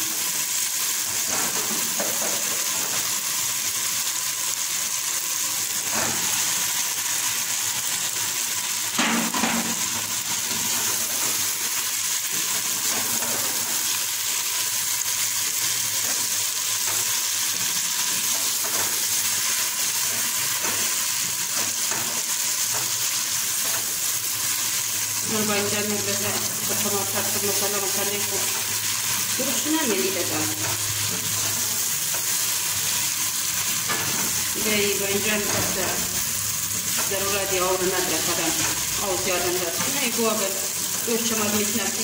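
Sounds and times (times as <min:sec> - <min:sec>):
tomato sauce sizzling: 0:00.0 - 0:42.0.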